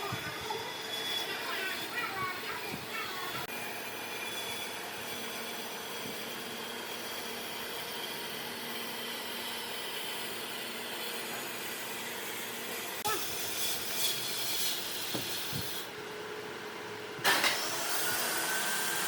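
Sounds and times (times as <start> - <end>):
workshop machine running: 0.0 - 19.0.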